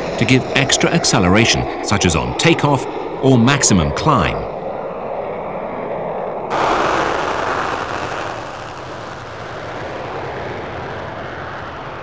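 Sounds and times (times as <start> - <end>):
jet engines roaring on afterburner: 0.0 - 12.0.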